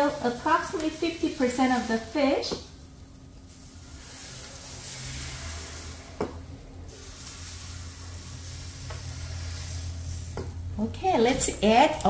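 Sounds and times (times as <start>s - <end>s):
batter sizzling on hot plates: 0.0s - 12.0s.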